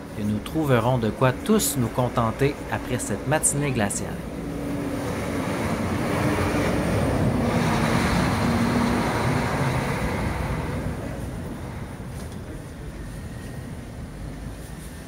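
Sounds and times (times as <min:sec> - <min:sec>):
truck engine and tyres rushing: 0:00.0 - 0:15.0.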